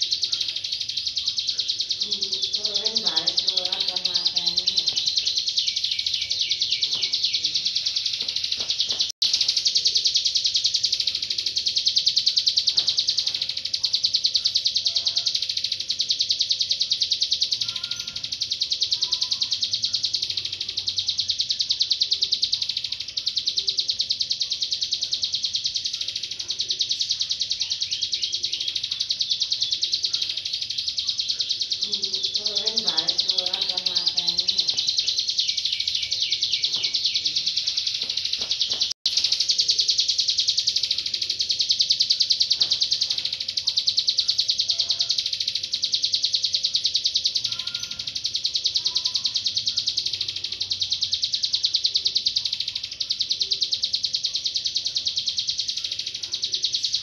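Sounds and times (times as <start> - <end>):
bird chattering trill: 0.0 - 57.0.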